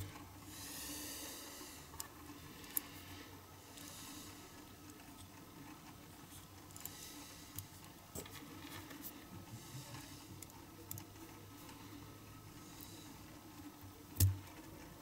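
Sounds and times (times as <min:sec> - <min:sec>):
small clicks and rustles of handling: 0:01.9 - 0:15.0.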